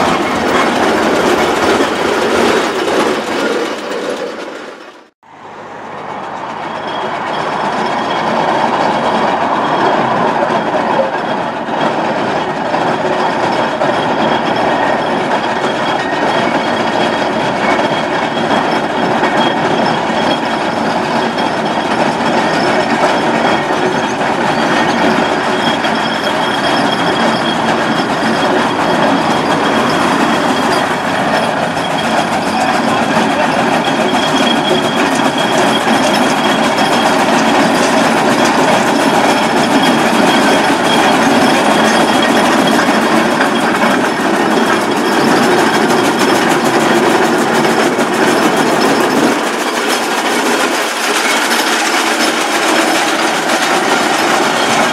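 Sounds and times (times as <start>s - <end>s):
steam roller rolling on tarmac: 0.0s - 54.9s.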